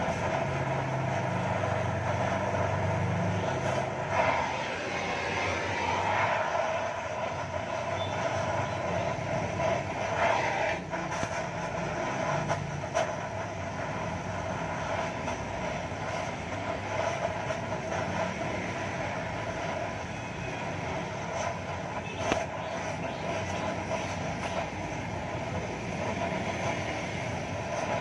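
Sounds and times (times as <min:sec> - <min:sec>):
welding torch hissing: 0:00.0 - 0:28.0.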